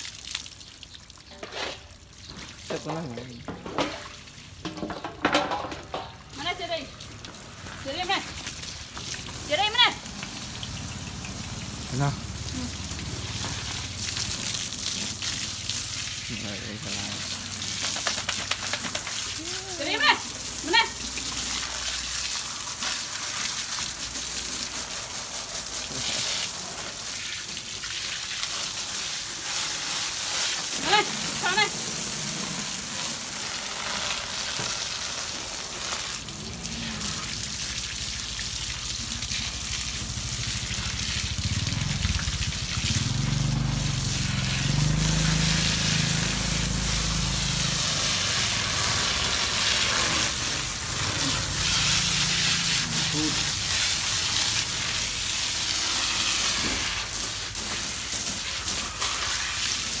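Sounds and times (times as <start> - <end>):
hose water spraying and splattering: 0.0 - 60.0.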